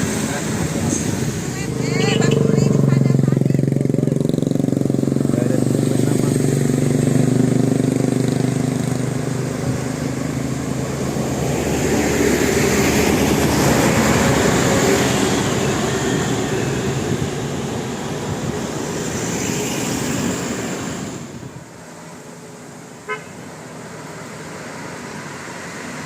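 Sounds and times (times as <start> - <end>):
heavy vehicle passing: 0.0 - 26.0.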